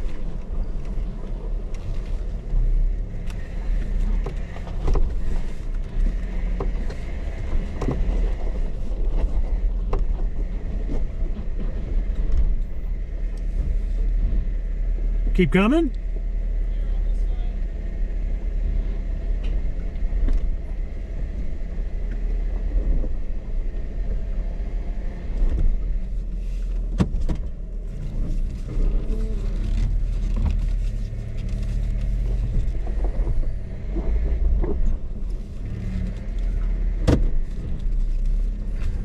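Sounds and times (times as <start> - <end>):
vehicle engine running at low speed: 0.0 - 39.0.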